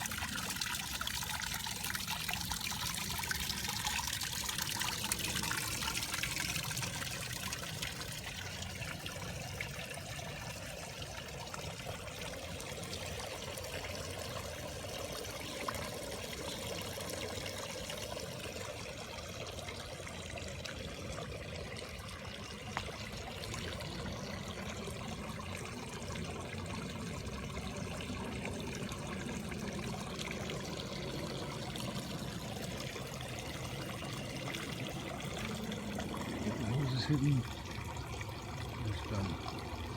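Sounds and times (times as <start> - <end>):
fountain water trickling and splashing: 0.0 - 39.9.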